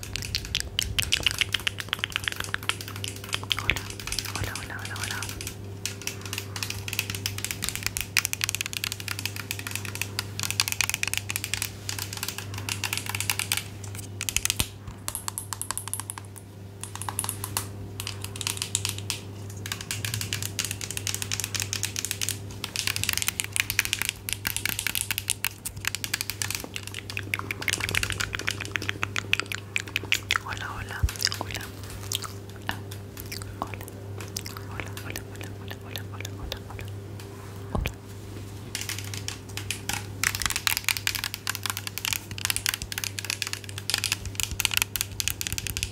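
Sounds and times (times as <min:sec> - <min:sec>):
rapid light tapping and clicking: 0:00.0 - 0:38.0, 0:38.6 - 0:45.9
faint low hum: 0:00.0 - 0:45.9.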